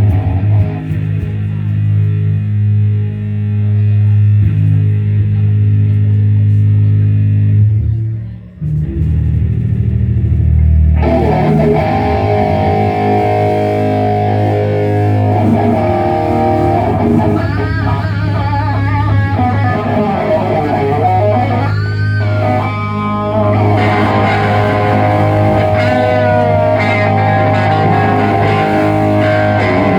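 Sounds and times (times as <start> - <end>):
amplified electric guitar: 0.0 - 29.9
sustained low bass note: 0.0 - 29.9.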